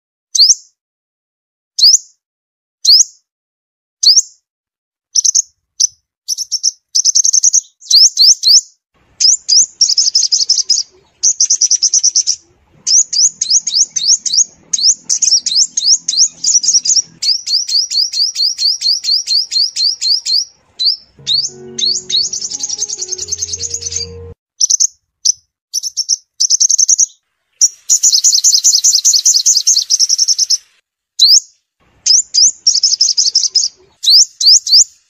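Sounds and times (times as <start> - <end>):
bird chirping song: 0.3 - 0.8, 1.8 - 2.2, 2.8 - 3.2, 4.0 - 4.4, 5.1 - 35.0.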